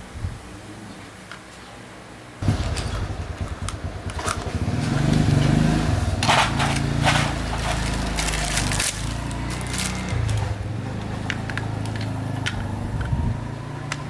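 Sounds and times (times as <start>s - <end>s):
motorbike engine starting and revving: 2.4s - 14.0s.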